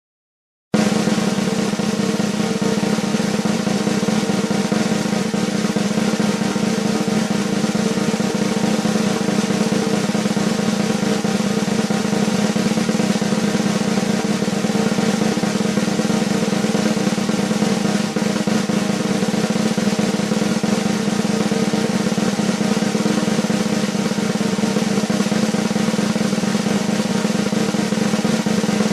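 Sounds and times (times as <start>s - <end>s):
snare drum roll: 0.8s - 28.9s.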